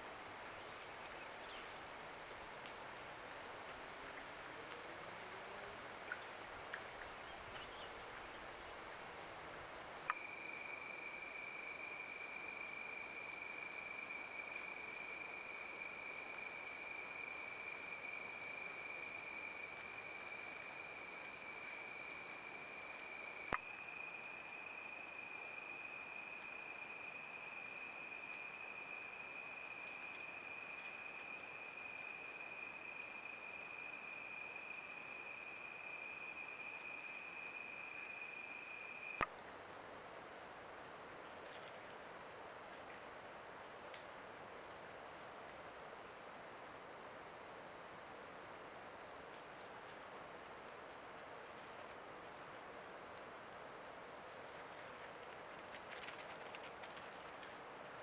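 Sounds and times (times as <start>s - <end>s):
crickets trilling: 0.0s - 39.3s, 48.2s - 58.0s.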